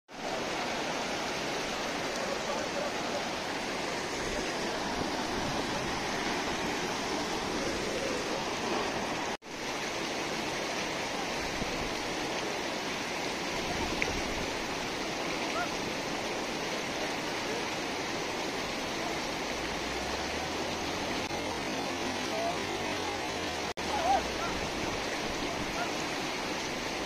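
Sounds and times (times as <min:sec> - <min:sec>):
stream rushing over rocks: 0:00.1 - 0:27.0.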